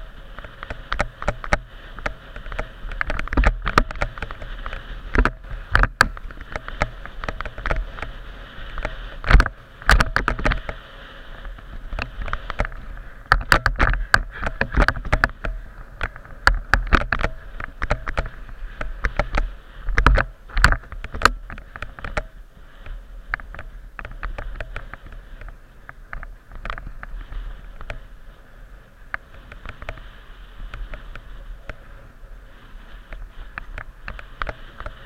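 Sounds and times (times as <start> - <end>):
mountain bike rattling and knocking: 0.0 - 28.5, 29.1 - 32.1, 32.8 - 35.0
low rumble of tyres and wind: 0.0 - 35.0.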